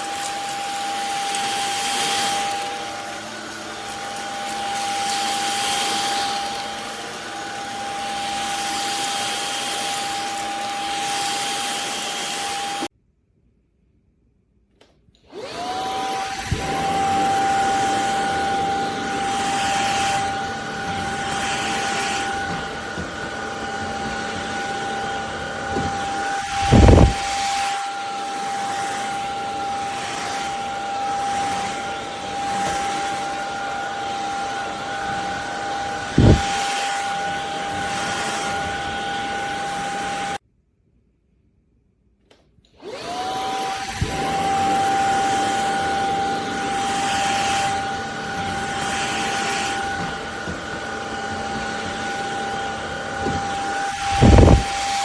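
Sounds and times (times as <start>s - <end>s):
vacuum cleaner motor whine: 0.0s - 12.9s, 14.8s - 40.4s, 42.3s - 55.0s.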